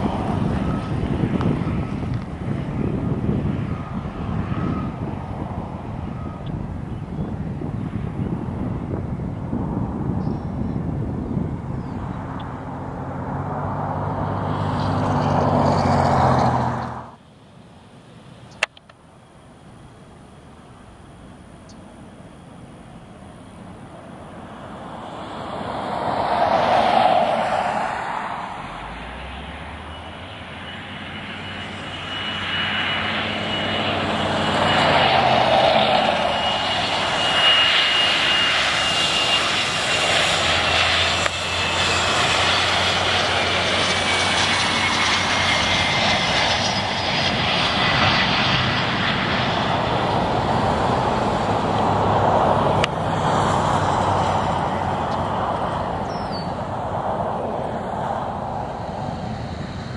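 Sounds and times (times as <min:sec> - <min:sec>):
high jet whine: 0:00.0 - 0:59.9
jet engine roar: 0:00.0 - 0:59.9.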